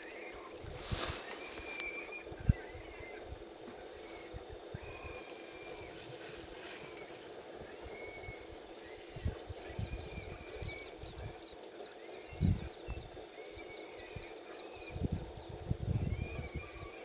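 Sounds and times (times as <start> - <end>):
warbling bird calls: 0.0 - 17.0.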